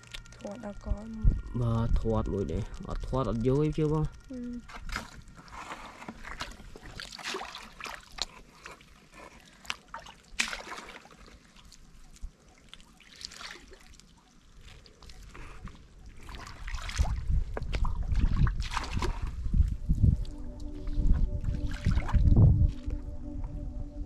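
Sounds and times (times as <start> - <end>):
water splashing and sloshing: 0.0 - 23.7.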